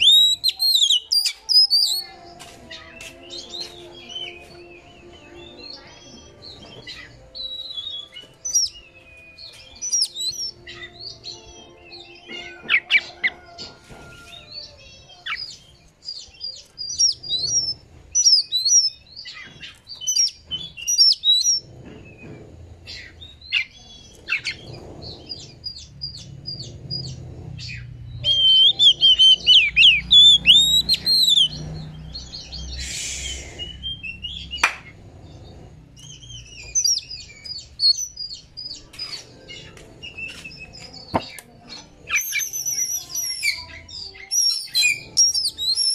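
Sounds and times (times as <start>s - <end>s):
bird singing: 0.0s - 45.9s.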